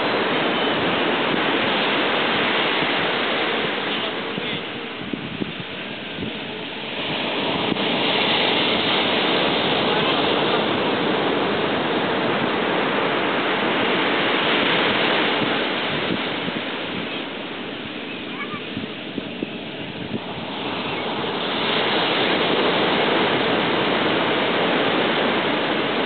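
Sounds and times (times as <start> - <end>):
ocean surf breaking on sand: 0.0 - 26.0.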